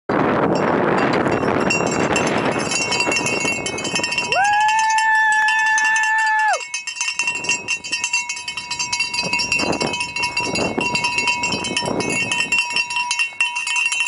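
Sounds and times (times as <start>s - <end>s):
cowbell clanking rapidly: 0.5s - 14.0s.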